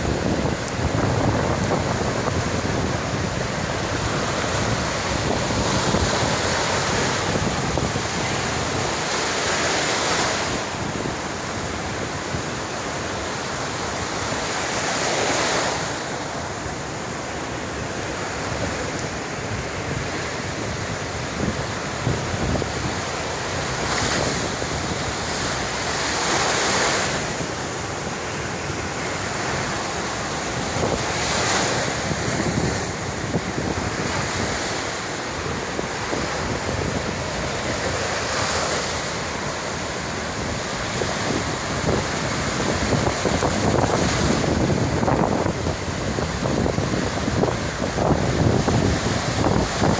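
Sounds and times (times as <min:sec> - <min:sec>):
waves crashing on beach: 0:00.0 - 0:49.9
wind buffeting microphone: 0:00.0 - 0:49.9.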